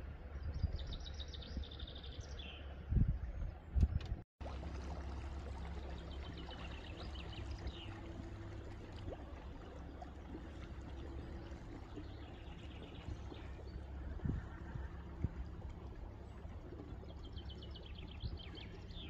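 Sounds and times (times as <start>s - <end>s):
low steady hum: 0.0s - 19.0s
water trickling and lapping: 0.1s - 19.0s.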